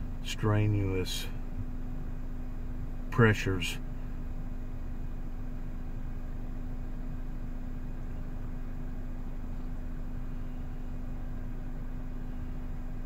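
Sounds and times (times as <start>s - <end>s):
car engine idling: 0.0s - 13.0s
constant droning tone: 0.0s - 13.0s.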